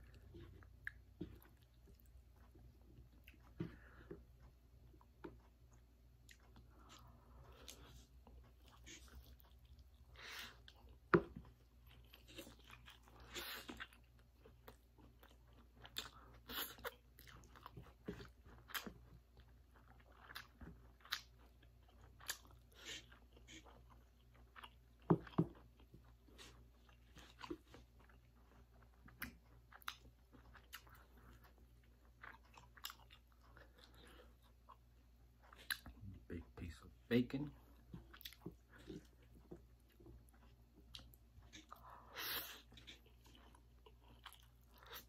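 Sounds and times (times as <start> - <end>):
chewing with wet mouth smacks: 0.0 - 36.2, 37.6 - 45.0.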